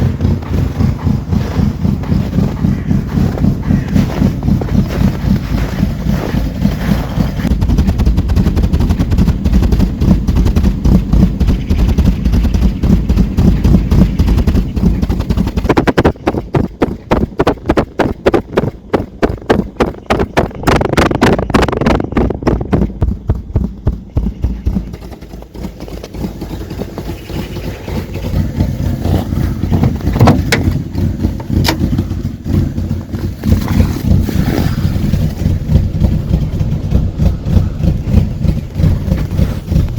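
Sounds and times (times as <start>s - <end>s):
air-cooled car engine running: 0.0s - 39.9s.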